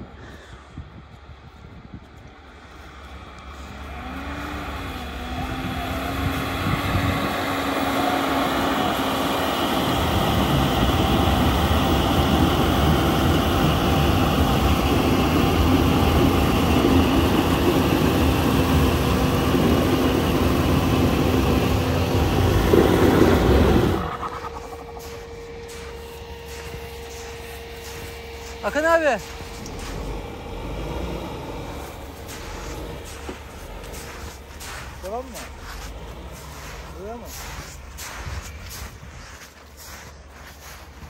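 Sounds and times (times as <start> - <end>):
steady hum: 0.0 - 41.0
pickup engine under load: 3.1 - 40.4.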